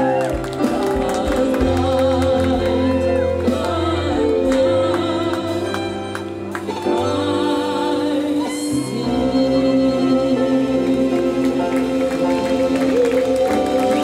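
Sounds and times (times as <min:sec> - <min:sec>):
singing: 0:00.0 - 0:14.0.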